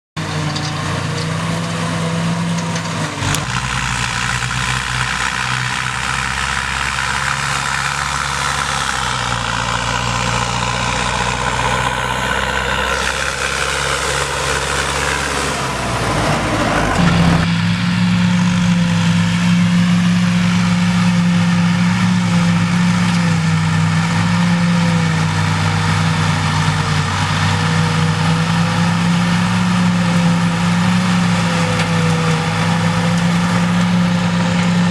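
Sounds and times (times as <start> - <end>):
forage harvester chopping whir: 0.2 - 34.9
tractor engine running under load: 0.2 - 34.9.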